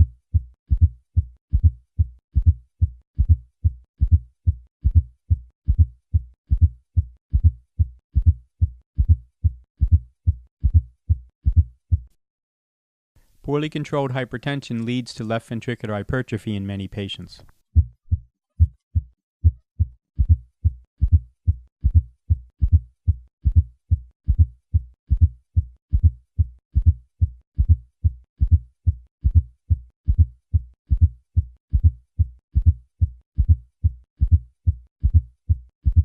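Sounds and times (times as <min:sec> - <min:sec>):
heartbeat thuds: 0:00.0 - 0:12.1, 0:17.8 - 0:36.0.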